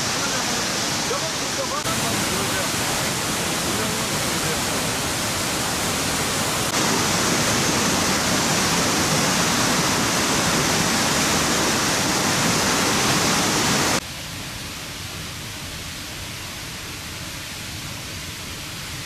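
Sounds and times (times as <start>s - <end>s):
rushing river water: 0.0s - 19.0s
waterfall cascading: 0.0s - 19.0s.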